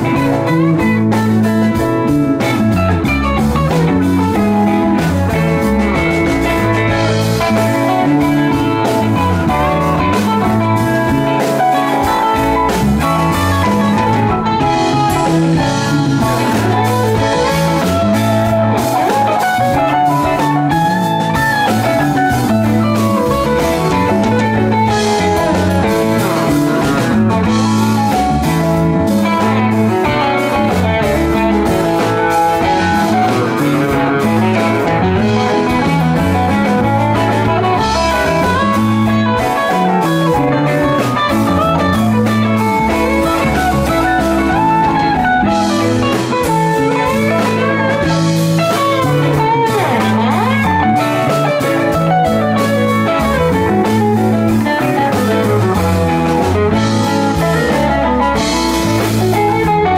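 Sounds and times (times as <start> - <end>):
bass line: 0.0 - 59.9
drums: 0.0 - 59.9
electric guitar lead with bent notes: 0.0 - 59.9
keyboard: 0.0 - 59.9.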